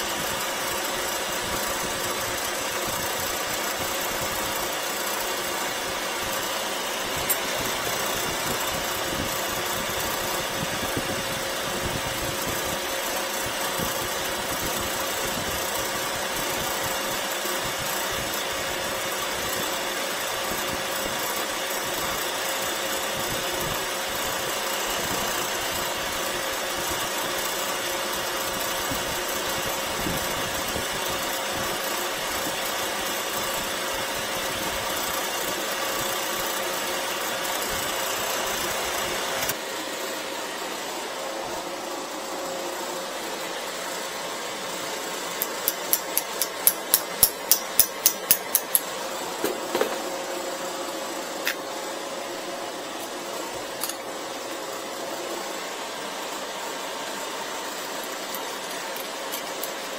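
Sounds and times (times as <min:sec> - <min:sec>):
recovery machine running with hiss: 0:00.0 - 0:59.9.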